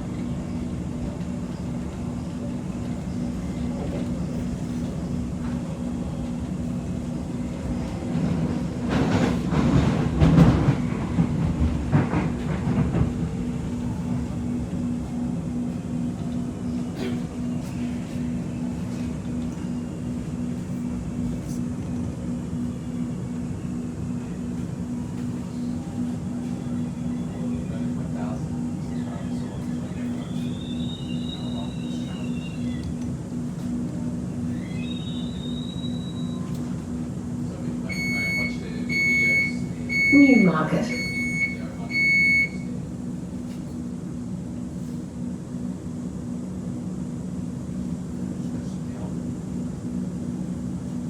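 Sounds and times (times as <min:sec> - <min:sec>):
electric train running rumble: 0:00.0 - 0:51.0.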